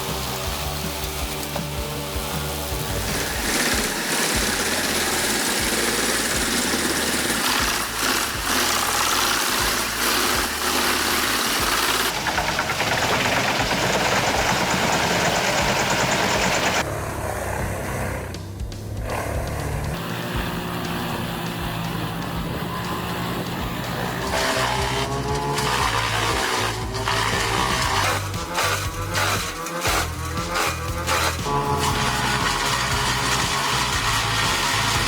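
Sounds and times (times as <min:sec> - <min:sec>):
wood chipper running: 0:00.0 - 0:35.0.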